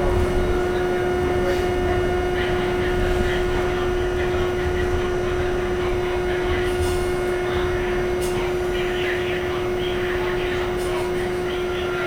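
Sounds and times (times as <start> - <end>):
constant hum: 0.0 - 12.0
subway car rumble: 0.0 - 12.0.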